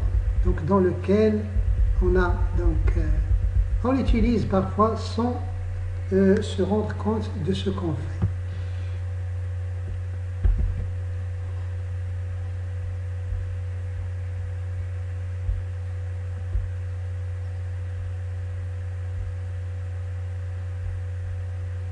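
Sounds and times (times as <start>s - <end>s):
low thumps: 0.0s - 19.7s
low hum: 0.0s - 21.9s.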